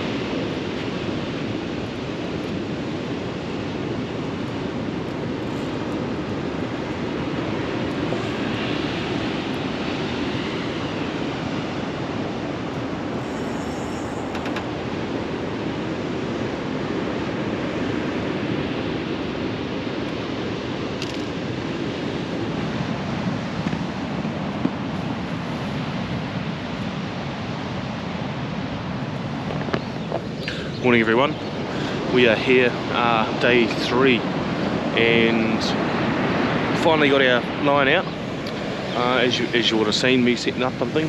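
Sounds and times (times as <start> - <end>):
surf breaking on beach: 0.0 - 41.0
wind: 0.0 - 41.0.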